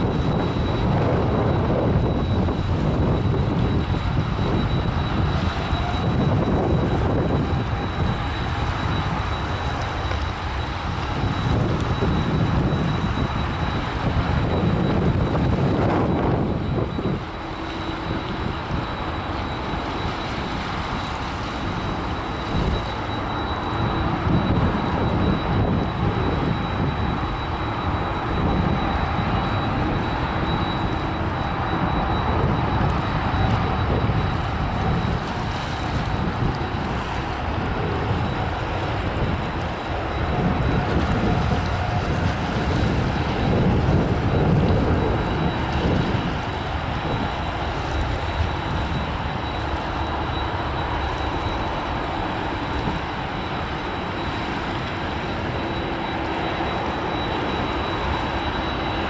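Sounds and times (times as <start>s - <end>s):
jet engines at takeoff power: 0.0s - 59.0s.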